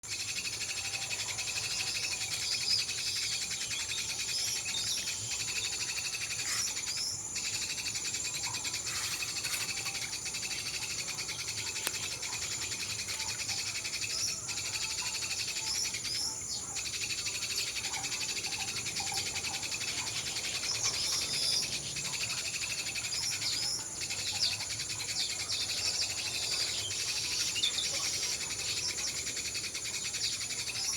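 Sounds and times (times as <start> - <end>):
birds chirping and chattering: 0.0 - 30.9.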